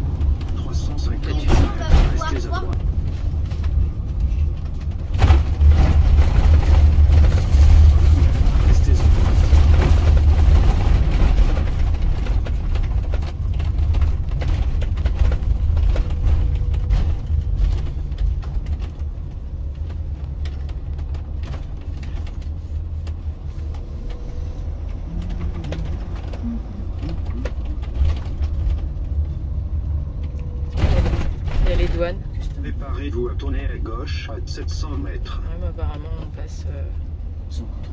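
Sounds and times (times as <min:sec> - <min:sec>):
engine and tyres rumbling: 0:00.0 - 0:37.9.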